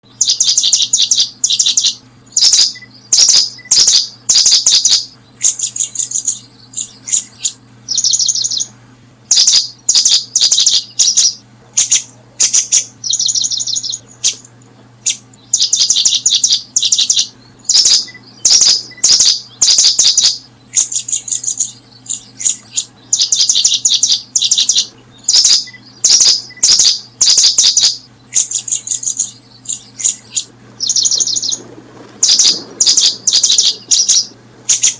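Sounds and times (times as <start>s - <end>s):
small birds chirping trills: 0.0s - 34.9s.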